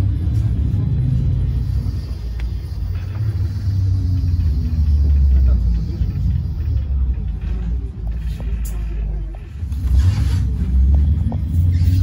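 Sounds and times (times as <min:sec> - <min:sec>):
trolleybus rumbling along: 0:00.0 - 0:12.0.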